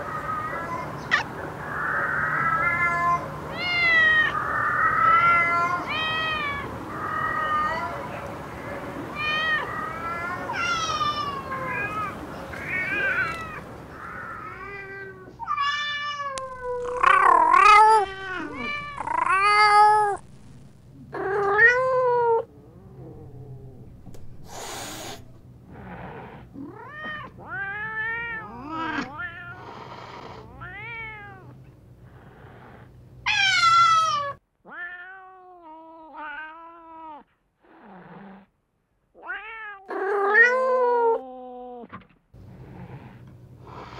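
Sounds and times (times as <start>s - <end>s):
cats meowing: 0.0s - 37.9s, 39.2s - 41.8s.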